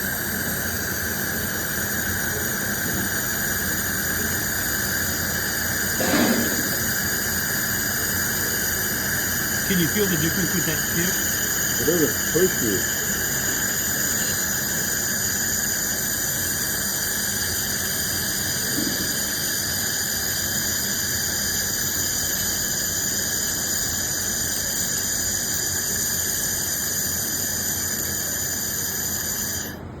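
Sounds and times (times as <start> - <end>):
hiss: 0.0 - 29.8
laser welder high-pitched squeal: 0.0 - 30.0.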